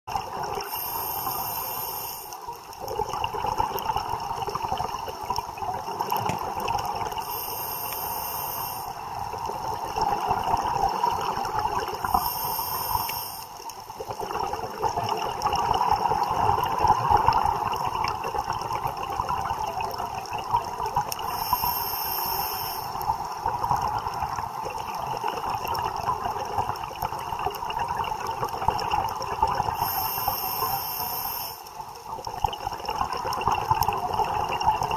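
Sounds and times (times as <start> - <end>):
underwater bubbling of exhaled air: 0.1 - 34.9.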